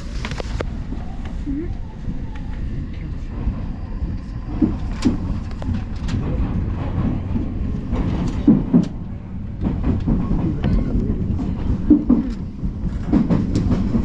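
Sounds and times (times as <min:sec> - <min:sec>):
electric train rumbling: 0:00.0 - 0:14.0
wheels clicking on track: 0:00.0 - 0:14.0.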